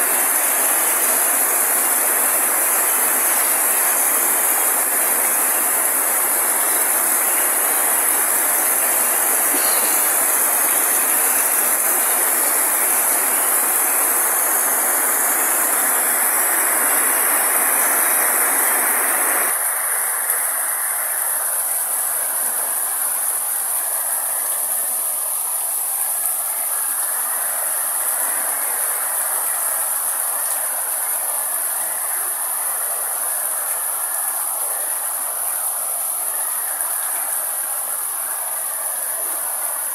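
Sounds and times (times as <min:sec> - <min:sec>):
heavy rain: 0:00.0 - 0:39.9
steady high hiss: 0:00.0 - 0:39.9.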